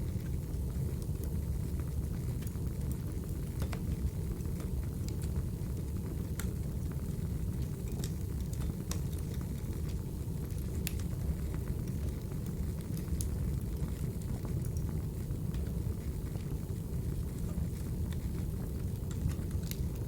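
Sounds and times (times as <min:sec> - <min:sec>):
fire rumbling: 0:00.0 - 0:20.0
firewood crackling and popping: 0:00.0 - 0:20.0.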